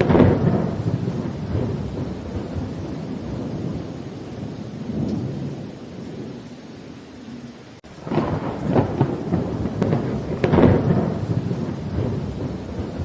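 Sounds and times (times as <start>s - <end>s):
thunder rumbling and cracking: 0.0s - 7.0s, 7.8s - 13.0s
steady rain: 0.0s - 13.0s.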